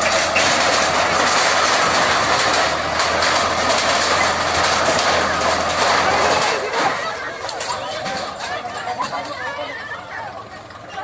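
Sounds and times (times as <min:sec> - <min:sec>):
wood and metal crunching: 0:00.0 - 0:09.9
diesel engine under load: 0:00.0 - 0:11.0.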